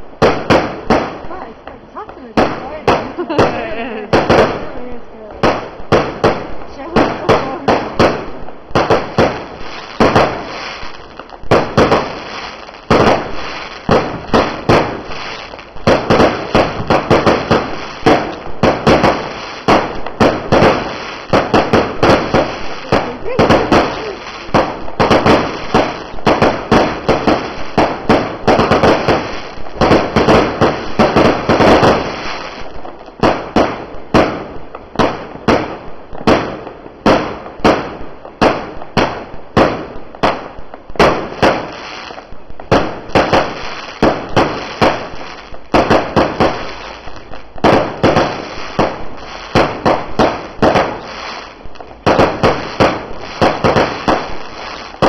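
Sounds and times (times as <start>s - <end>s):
fireworks popping and bursting: 0.0s - 55.0s.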